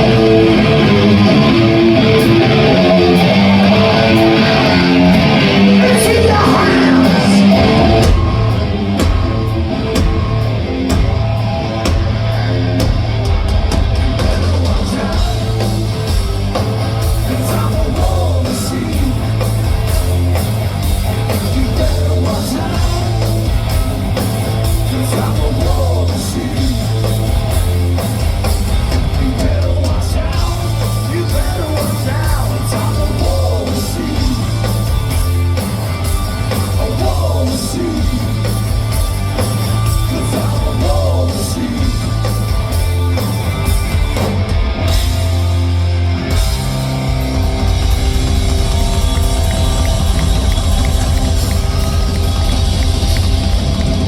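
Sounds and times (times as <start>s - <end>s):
electric guitar riffing: 0.0s - 54.0s
heavy bass: 0.0s - 54.0s
drums with crashing cymbals: 7.0s - 54.0s.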